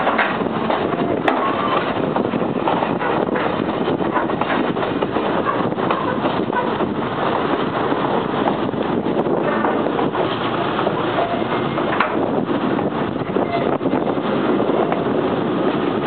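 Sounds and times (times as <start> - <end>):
train rushing: 0.0 - 16.0
wind on microphone: 0.0 - 16.0.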